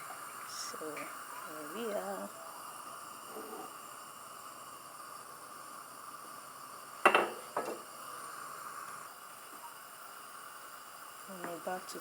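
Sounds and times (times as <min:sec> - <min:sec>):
pancake frying hiss: 0:00.0 - 0:12.0.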